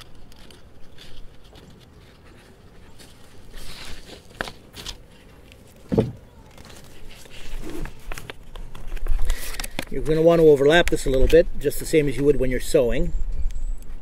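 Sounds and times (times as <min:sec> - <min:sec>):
tape rustling and crinkling: 0:00.0 - 0:11.4.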